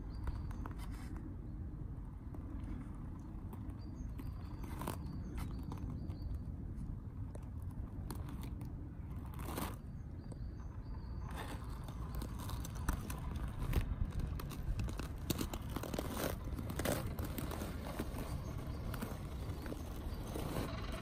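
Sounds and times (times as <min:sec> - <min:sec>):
icy snow crunching under tyres: 0:02.4 - 0:06.4, 0:07.2 - 0:21.0.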